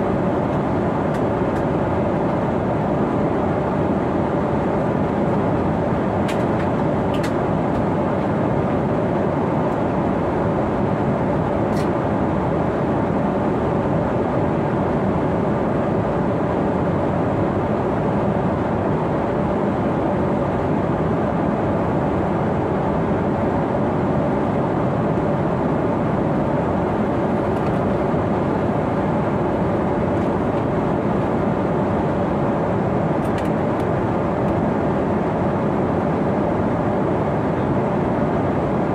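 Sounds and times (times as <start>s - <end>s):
airliner cabin roar: 0.0s - 38.9s.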